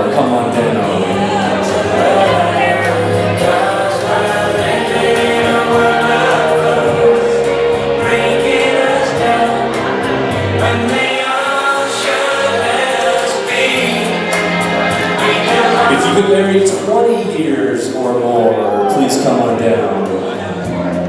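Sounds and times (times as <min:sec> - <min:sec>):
choir-like group singing: 0:00.2 - 0:17.2.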